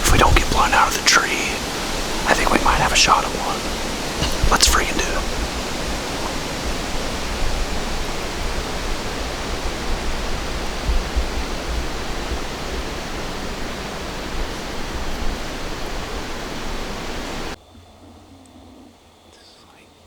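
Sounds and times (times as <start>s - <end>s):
wind buffeting microphone: 0.0s - 17.6s
strong wind through trees: 0.0s - 19.8s.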